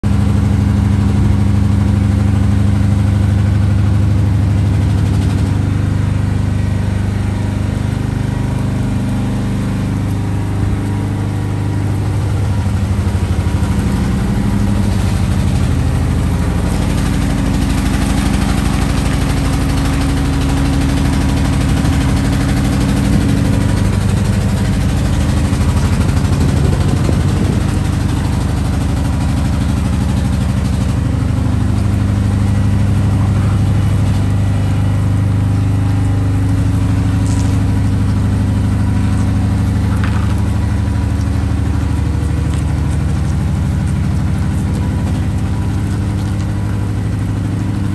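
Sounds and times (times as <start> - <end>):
truck diesel engine at low revs: 0.0 - 47.9.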